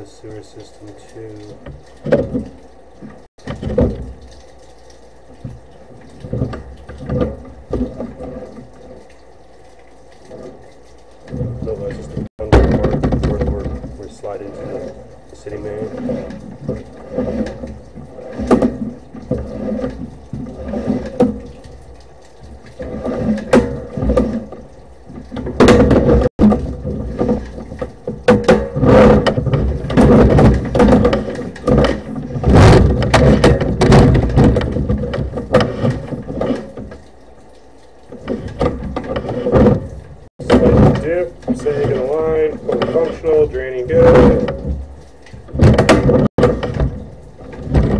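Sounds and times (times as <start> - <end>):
cable knocking and scraping in pipe: 0.6 - 9.4, 10.1 - 47.9.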